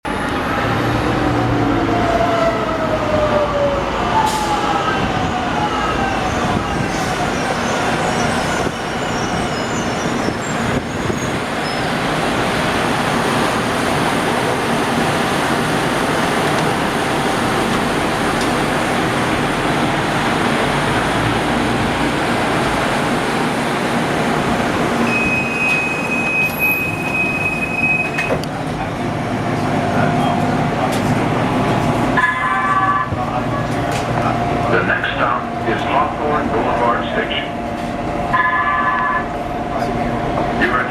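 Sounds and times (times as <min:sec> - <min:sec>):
train rumbling and rolling: 0:00.0 - 0:40.9.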